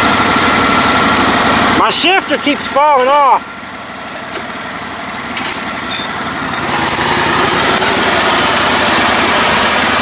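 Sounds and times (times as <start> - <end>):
riding mower engine running: 0.0 - 10.0.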